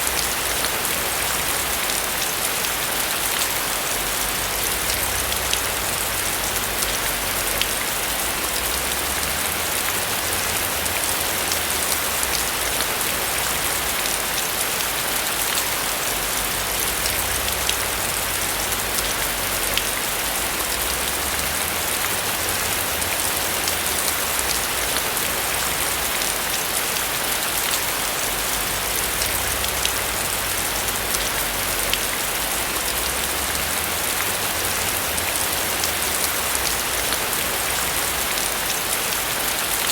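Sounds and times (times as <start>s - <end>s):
rain pattering on a roof: 0.0s - 39.9s.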